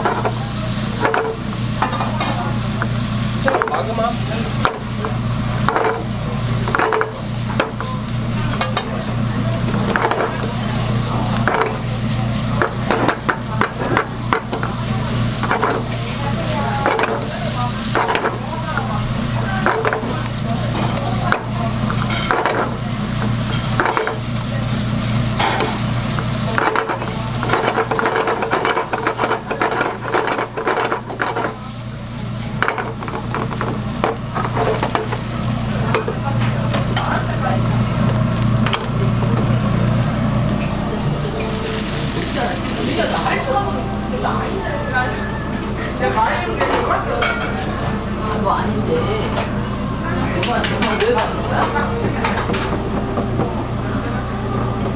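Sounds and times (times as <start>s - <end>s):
food sizzling in a pan: 0.0s - 45.7s.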